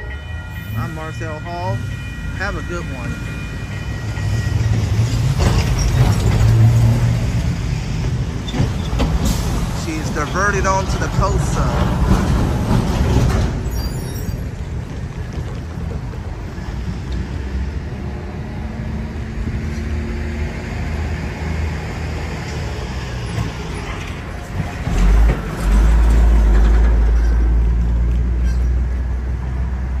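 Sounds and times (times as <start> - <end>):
distant traffic: 0.0 - 30.0
distant train rumble: 0.0 - 30.0.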